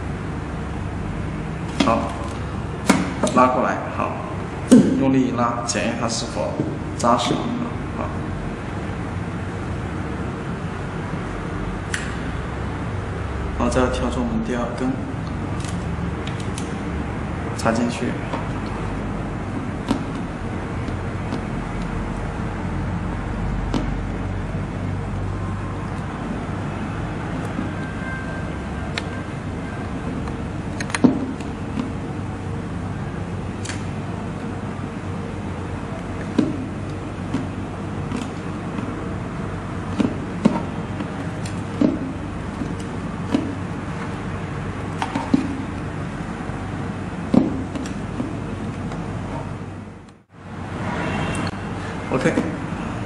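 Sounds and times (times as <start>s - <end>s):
background hum and hiss: 0.0s - 53.0s.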